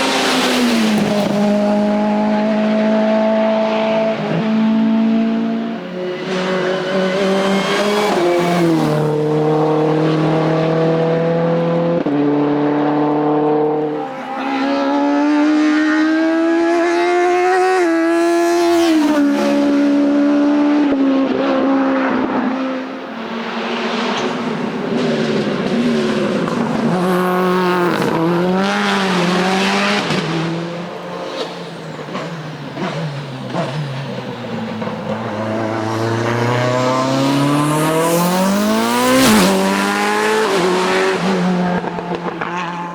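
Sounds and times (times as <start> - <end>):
race car engine at full throttle: 0.0 - 42.9.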